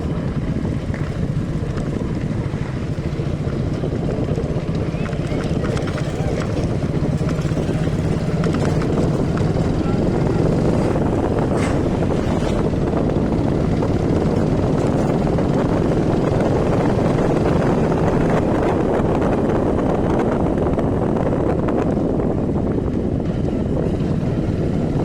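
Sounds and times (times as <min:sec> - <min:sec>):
road vehicle running: 0:00.0 - 0:25.0
wind rumble on microphone: 0:00.0 - 0:25.0.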